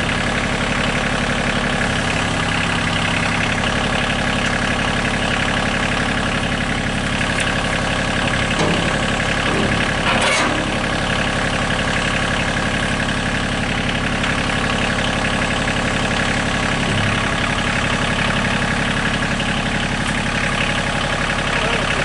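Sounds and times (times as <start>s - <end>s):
diesel tractor engine idling: 0.0s - 22.0s.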